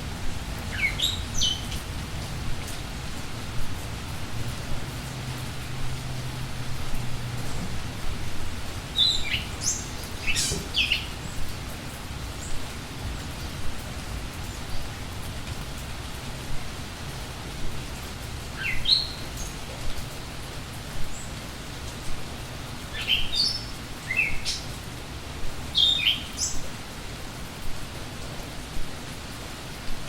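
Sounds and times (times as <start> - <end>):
rain falling and dripping: 0.0 - 30.0
songbirds chirping: 0.3 - 27.4.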